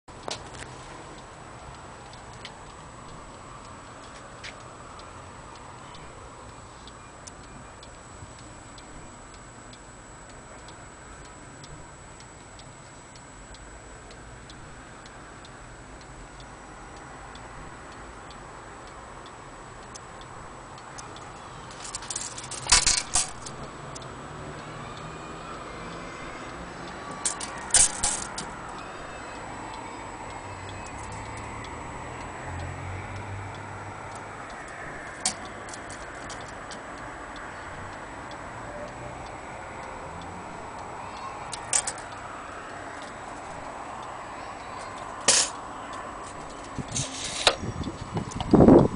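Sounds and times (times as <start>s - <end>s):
wall clock ticking: 1.2s - 46.9s.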